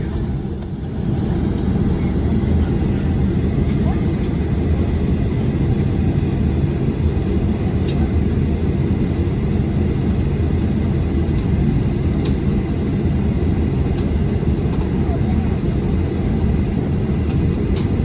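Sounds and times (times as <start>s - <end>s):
aircraft cabin low rumble: 0.0s - 18.0s.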